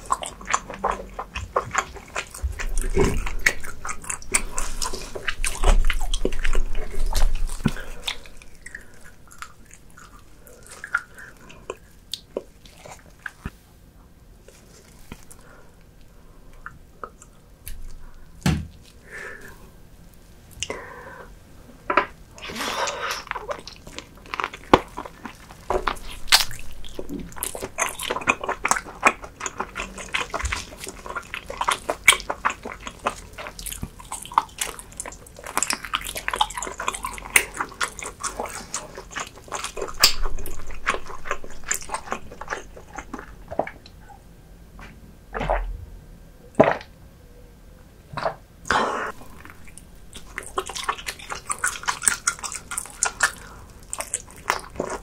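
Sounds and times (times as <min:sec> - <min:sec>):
wet chewing and mouth sounds: 0:00.0 - 0:13.6, 0:14.4 - 0:19.5, 0:21.9 - 0:44.2, 0:44.8 - 0:45.7, 0:48.2 - 0:55.0.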